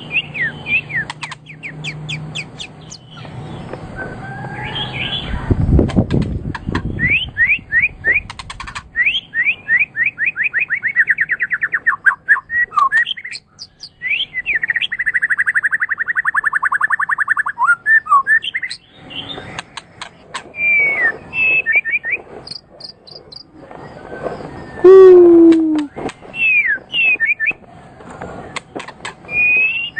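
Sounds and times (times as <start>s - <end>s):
songbird singing: 0.0s - 29.9s.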